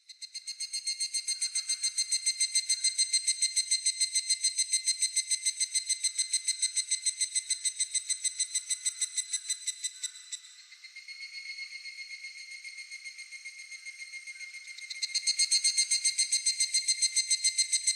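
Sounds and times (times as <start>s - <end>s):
cicada calling: 0.3s - 17.9s.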